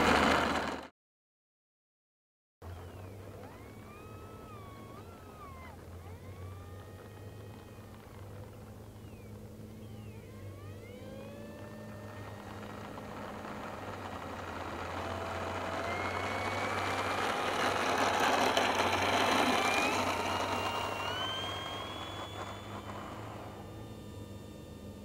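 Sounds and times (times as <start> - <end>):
model plane motor whining: 0.0 - 0.9, 2.6 - 25.0
steady low hum: 2.7 - 25.0.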